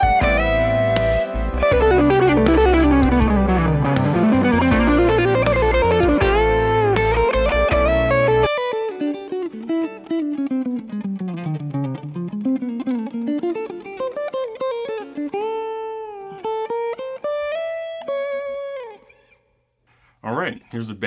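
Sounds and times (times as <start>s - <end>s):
electric guitar jazz line: 0.0s - 19.3s.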